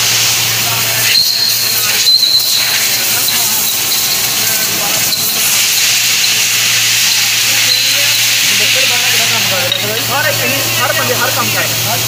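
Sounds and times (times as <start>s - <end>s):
steady hiss: 0.0s - 12.0s
workshop machinery humming: 0.0s - 12.0s.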